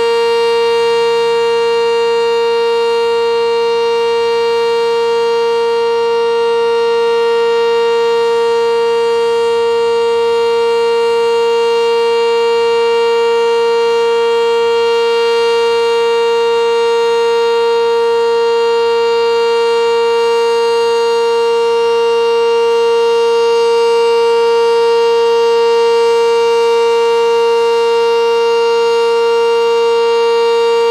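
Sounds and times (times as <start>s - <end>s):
warning siren steady tone: 0.0s - 30.9s.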